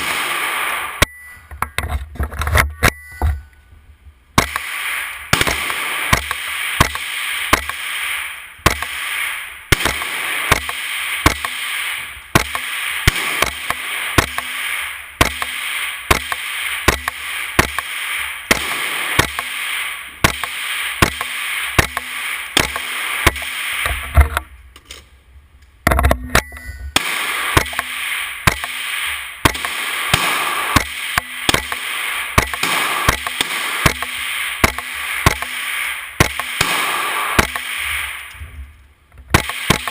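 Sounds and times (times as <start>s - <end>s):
gunshots: 0.0s - 1.1s, 4.4s - 24.4s, 26.2s - 38.5s, 39.3s - 39.9s
steady hiss: 4.4s - 25.8s, 27.0s - 39.8s.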